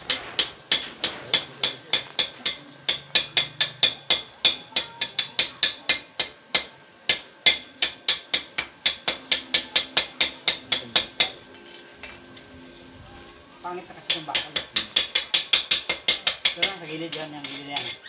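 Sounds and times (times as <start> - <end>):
metal rod tapping steel bar: 0.1 - 11.4, 14.1 - 18.0.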